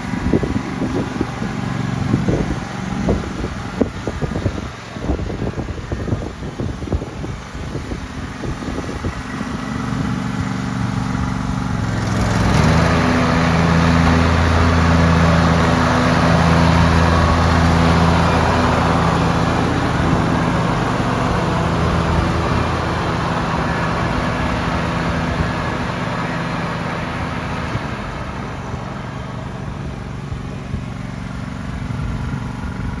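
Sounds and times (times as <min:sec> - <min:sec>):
lawn tractor engine running: 0:00.0 - 0:33.0.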